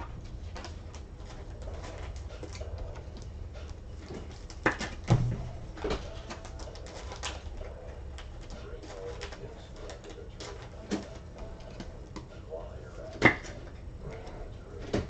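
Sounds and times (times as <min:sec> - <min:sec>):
cards rustling and clicking: 0:00.0 - 0:15.0
steady low hum: 0:00.0 - 0:15.0.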